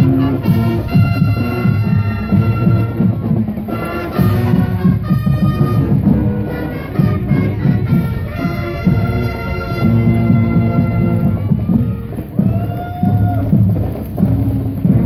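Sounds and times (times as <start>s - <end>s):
brass horns: 0.0s - 15.0s
marching band playing: 0.0s - 15.0s
steady drum beat: 0.0s - 15.0s.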